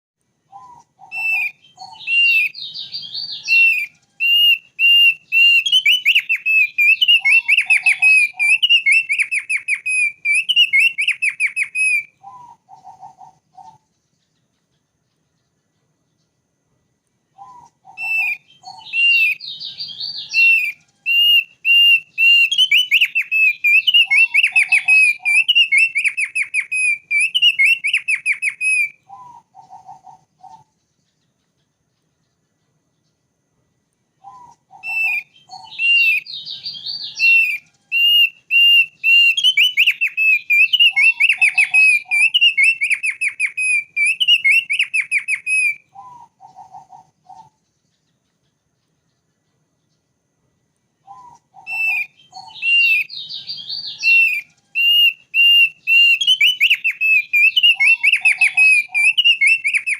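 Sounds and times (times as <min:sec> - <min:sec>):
bird singing whistled notes: 0:00.4 - 0:16.4, 0:17.3 - 0:33.3, 0:34.1 - 0:50.1, 0:51.0 - 0:59.9.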